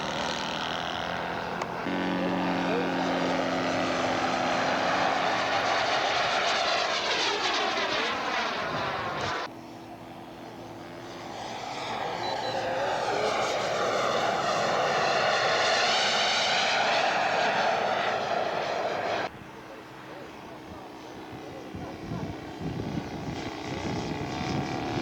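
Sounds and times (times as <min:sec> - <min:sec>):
model airplane engine: 0:00.0 - 0:25.0.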